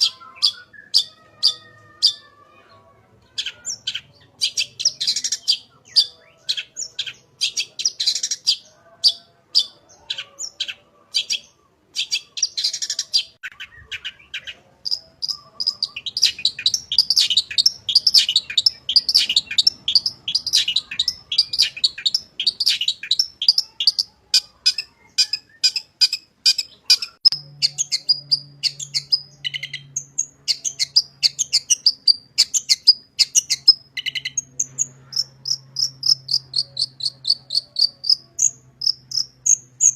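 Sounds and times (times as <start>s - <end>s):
shrike singing: 0.0s - 2.5s, 3.3s - 39.9s.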